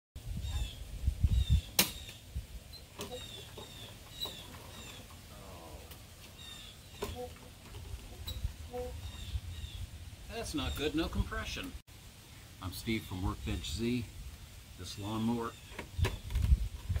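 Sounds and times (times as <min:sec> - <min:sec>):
birds chirping: 0:00.3 - 0:11.8, 0:14.8 - 0:17.0.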